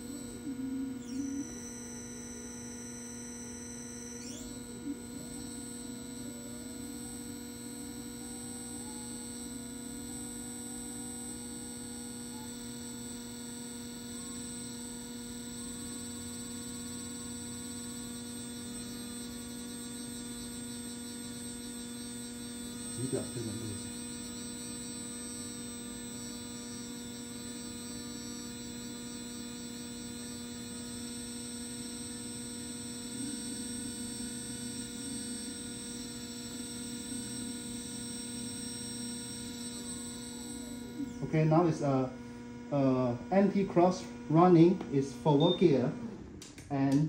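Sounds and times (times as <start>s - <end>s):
electric motor hum and whine: 0.0s - 47.0s.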